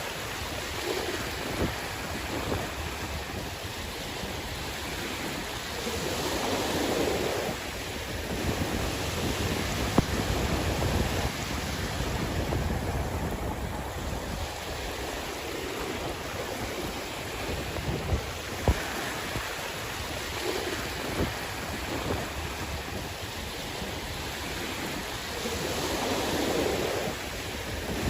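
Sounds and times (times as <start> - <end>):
sea waves washing in: 0.0 - 28.0
wind rumbling on microphone: 0.0 - 28.0.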